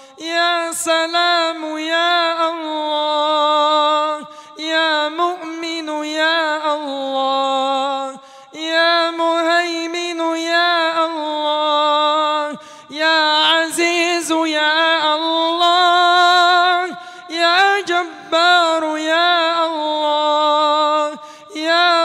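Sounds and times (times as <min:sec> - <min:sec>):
man chanting through a microphone: 0:00.0 - 0:22.0.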